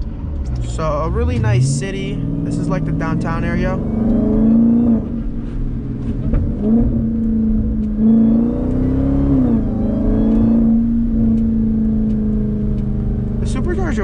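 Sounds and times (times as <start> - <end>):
engine running under throttle: 0.0 - 14.0
supercharger whine: 0.0 - 14.0.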